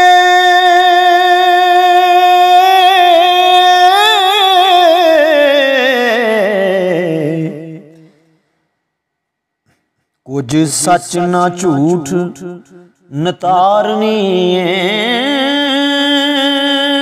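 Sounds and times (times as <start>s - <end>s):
person singing unaccompanied: 0.0s - 8.0s, 10.3s - 17.0s.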